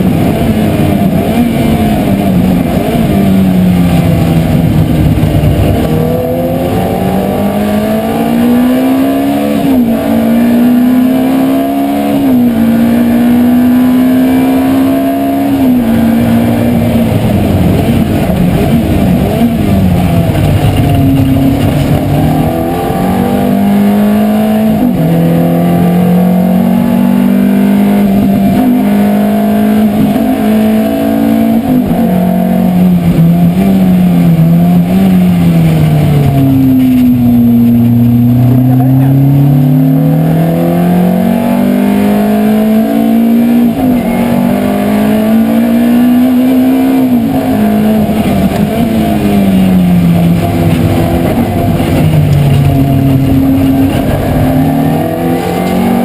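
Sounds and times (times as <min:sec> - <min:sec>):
car engine revving with upshifts: 0:00.0 - 0:56.0.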